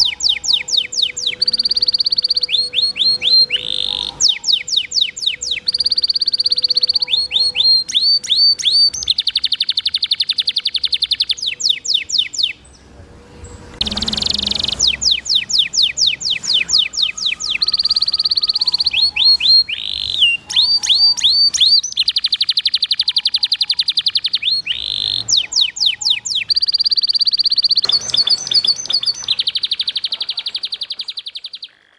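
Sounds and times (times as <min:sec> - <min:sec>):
canary singing: 0:00.0 - 0:31.9.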